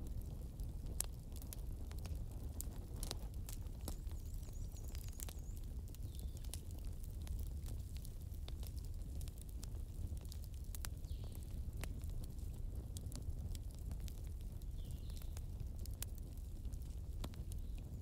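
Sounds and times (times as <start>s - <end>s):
low fire rumble: 0.0s - 18.0s
wood fire crackling: 0.0s - 18.0s.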